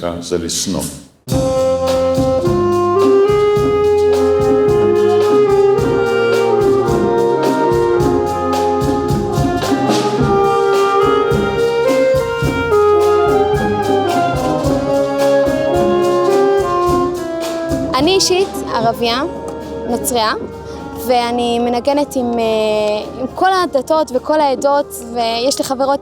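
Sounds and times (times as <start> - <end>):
brass band music: 1.3 - 26.0
steady percussion beat: 1.3 - 26.0
trumpet and trombone notes: 1.3 - 26.0.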